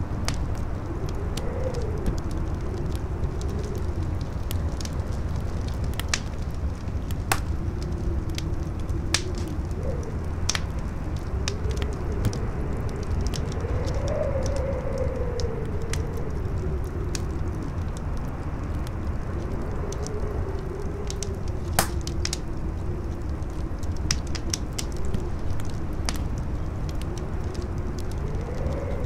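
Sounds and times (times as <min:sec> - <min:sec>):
campfire crackling and popping: 0:00.0 - 0:29.0
strong wind howling: 0:00.0 - 0:29.0.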